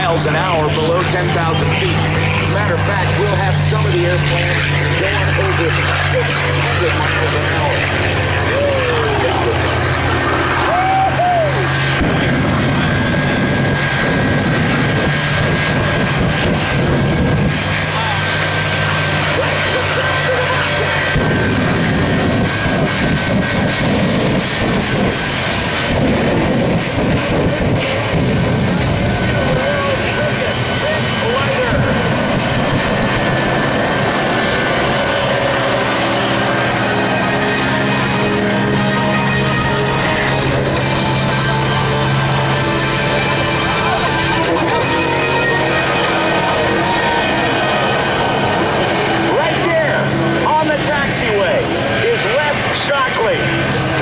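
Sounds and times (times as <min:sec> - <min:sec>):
aircraft engine noise: 0:00.0 - 0:54.0.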